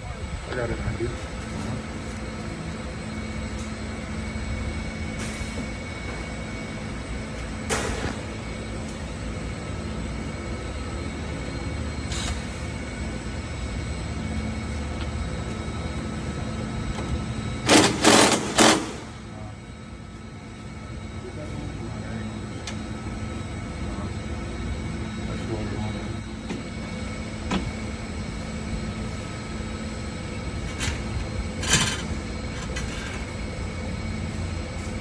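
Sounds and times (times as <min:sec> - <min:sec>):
repair shop hum: 0:00.0 - 0:35.0.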